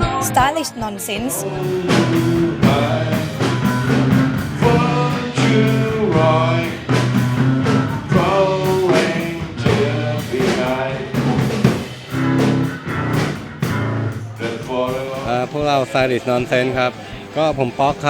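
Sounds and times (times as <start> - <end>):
rock band music: 0.0 - 18.0
sung lead vocal: 0.0 - 18.0.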